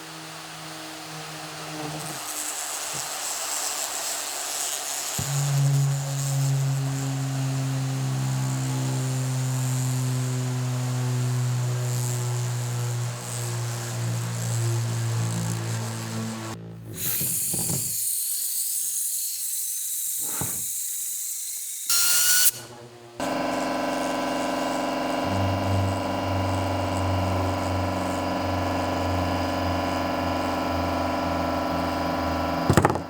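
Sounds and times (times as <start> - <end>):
electric motor hum: 0.0 - 17.0, 21.9 - 33.0.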